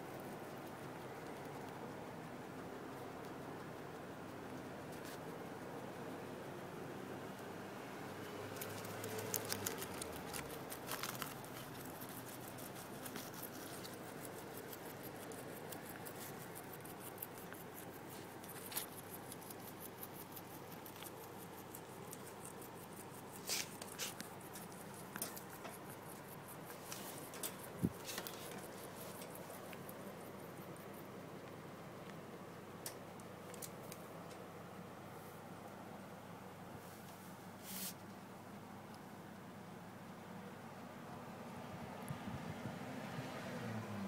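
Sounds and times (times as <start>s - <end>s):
guinea pig chewing grass: 0.0s - 35.6s.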